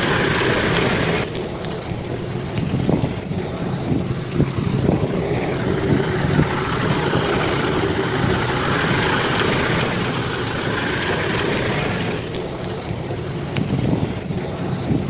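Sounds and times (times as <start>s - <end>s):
bulldozer diesel engine running: 0.0s - 13.6s.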